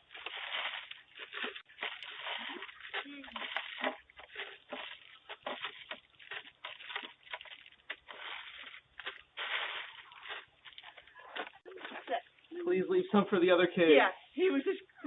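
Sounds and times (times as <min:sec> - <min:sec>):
rustling and crackling: 0:00.0 - 0:12.5.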